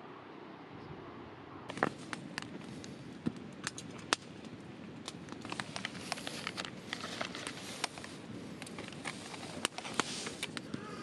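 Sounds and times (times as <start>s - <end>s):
firewood crackling and popping: 1.7s - 11.0s.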